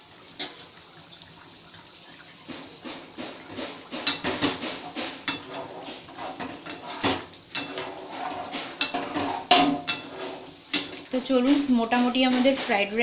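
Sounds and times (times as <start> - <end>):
steel spatula scraping a wok: 2.5 - 13.0.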